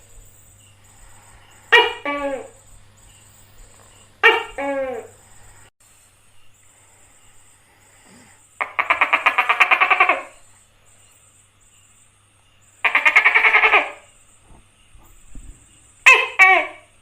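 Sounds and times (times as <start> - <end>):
gecko rattling trills: 0.0 - 17.0.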